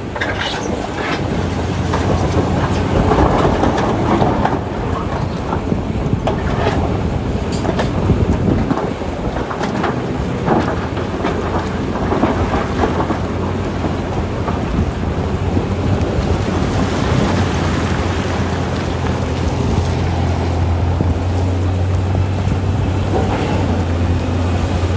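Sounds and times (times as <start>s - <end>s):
diesel engine under load: 0.0s - 24.9s
rocks grinding against steel bucket: 0.0s - 24.9s.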